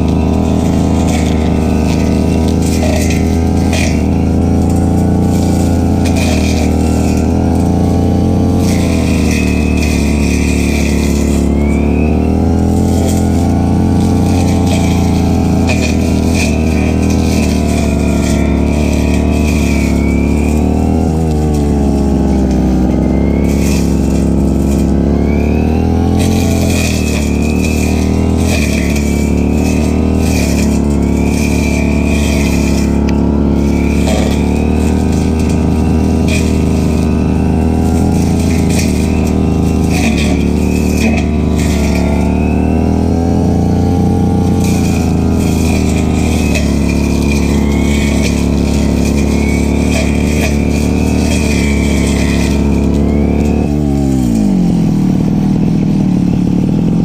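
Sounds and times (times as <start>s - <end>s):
brush cutter engine running: 0.0s - 57.0s
high whine of spinning cutting head: 0.0s - 57.0s.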